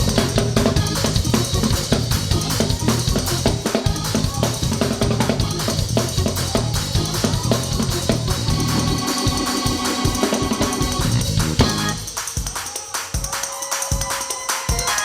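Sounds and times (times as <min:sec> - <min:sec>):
drum kit steady beat: 0:00.0 - 0:15.0
gospel band playing: 0:00.0 - 0:15.0.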